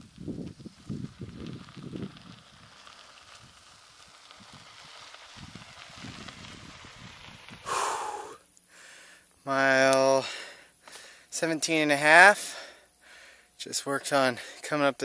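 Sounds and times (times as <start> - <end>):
bicycle tyres on gravel: 0.0 - 15.0.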